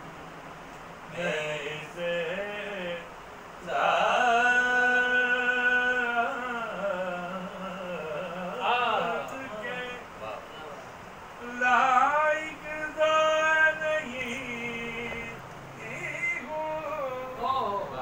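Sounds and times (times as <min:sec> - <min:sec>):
man singing unaccompanied: 0:01.0 - 0:10.6, 0:11.3 - 0:18.0.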